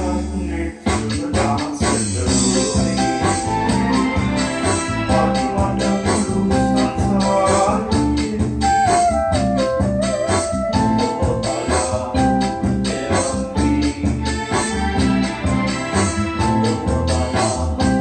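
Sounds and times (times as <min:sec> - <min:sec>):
keyboard music with steady beat: 0:00.0 - 0:18.0.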